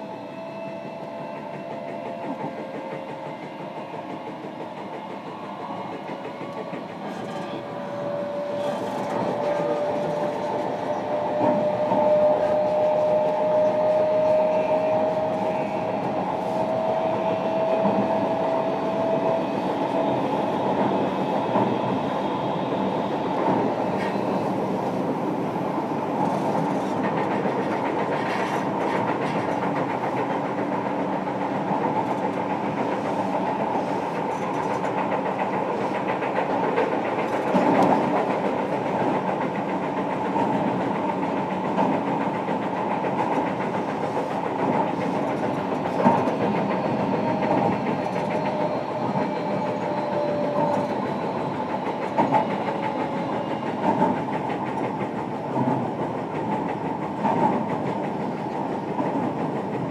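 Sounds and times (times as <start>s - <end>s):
train wheels rumbling on rail: 0.0s - 59.9s
clacks at rail joints: 0.5s - 21.8s, 26.1s - 59.9s.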